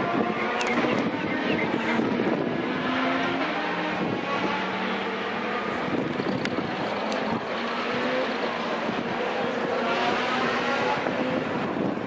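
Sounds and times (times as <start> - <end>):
distant race car engines droning: 0.0 - 12.0.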